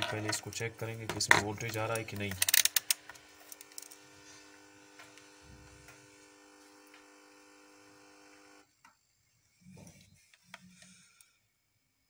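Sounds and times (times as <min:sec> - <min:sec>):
faint electrical buzz: 0:00.0 - 0:12.0.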